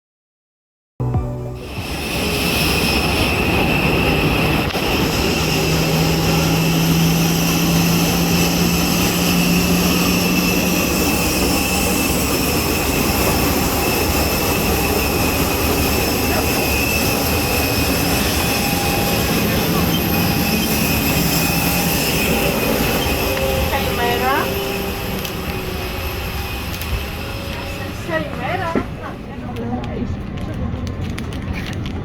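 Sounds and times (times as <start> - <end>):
jet turbine rush and whine: 1.6 - 30.3.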